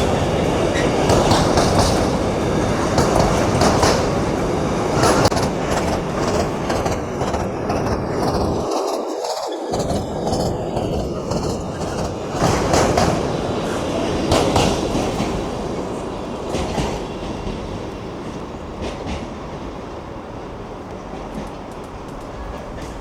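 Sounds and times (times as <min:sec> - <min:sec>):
train wheels clattering over rail joints: 0:00.0 - 0:23.0.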